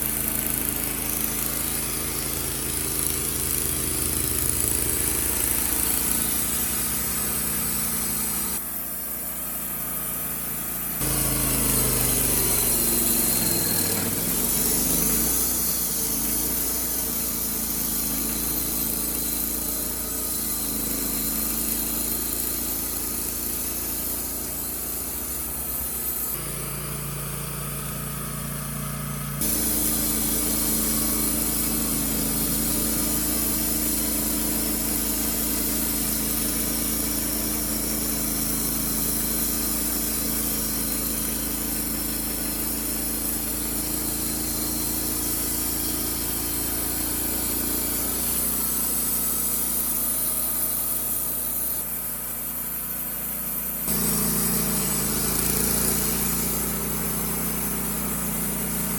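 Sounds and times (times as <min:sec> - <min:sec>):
bandsaw sawmill running: 0:00.0 - 0:58.9.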